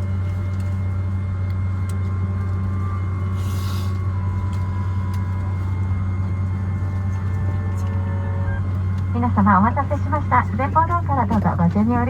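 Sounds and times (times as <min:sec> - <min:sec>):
airplane cabin hum: 0:00.0 - 0:12.0.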